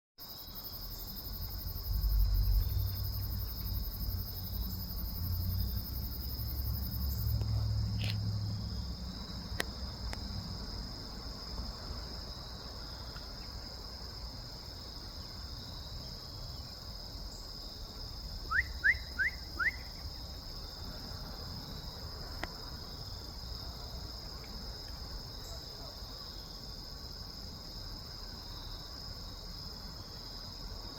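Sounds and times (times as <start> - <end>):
crickets droning: 0.2 - 30.9.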